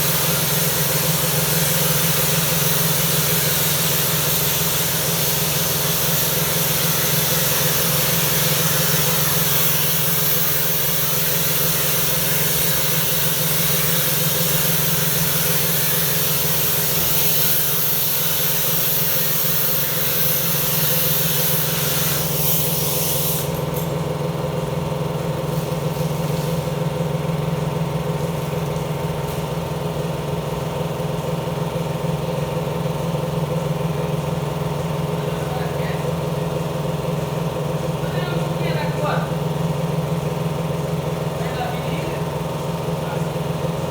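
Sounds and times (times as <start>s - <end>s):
pressure washer motor humming: 0.0s - 43.9s.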